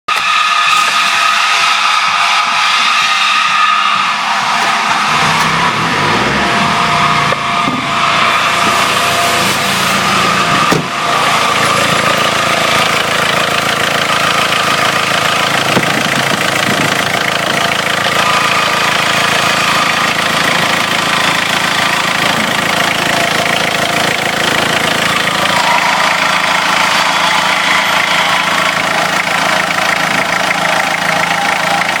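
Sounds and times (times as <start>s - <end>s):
diesel engine idling: 0.1s - 32.0s.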